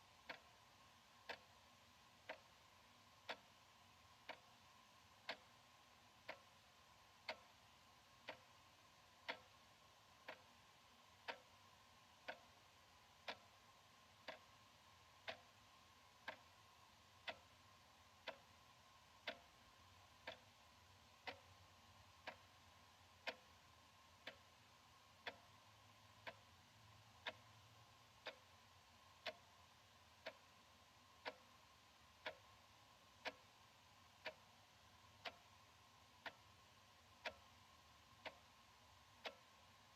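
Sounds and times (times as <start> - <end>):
wall clock ticking: 0.0 - 39.9.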